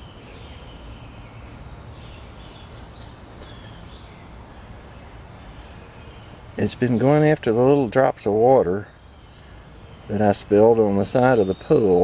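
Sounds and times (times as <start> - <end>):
bird chirp: 0.0 - 12.0
outdoor background noise: 0.0 - 12.0.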